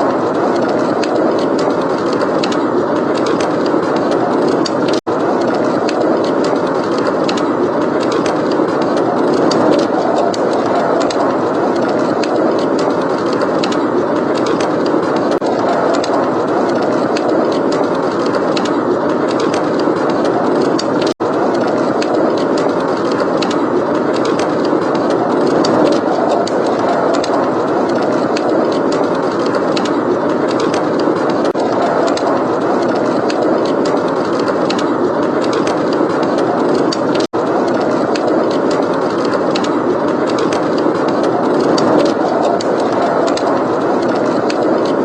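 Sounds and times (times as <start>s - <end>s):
blizzard wind blowing: 0.0s - 45.0s
wood fire crackling: 0.0s - 45.0s.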